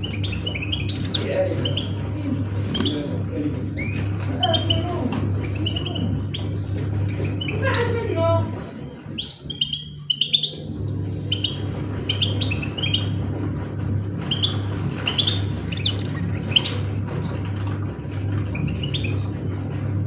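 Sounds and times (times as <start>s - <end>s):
small birds chirping: 0.0s - 19.8s
steady low hum: 0.0s - 20.0s.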